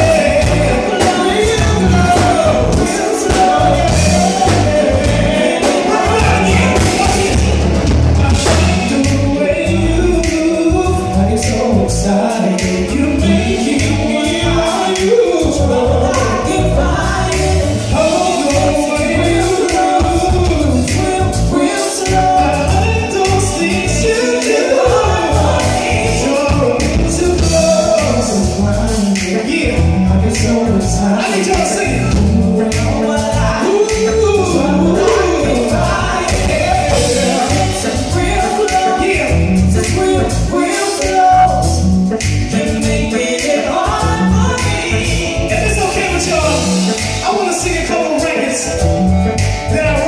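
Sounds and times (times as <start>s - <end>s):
backing track with bass beat: 0.0s - 50.0s
live band playing r and b: 0.0s - 50.0s
man singing: 0.0s - 50.0s.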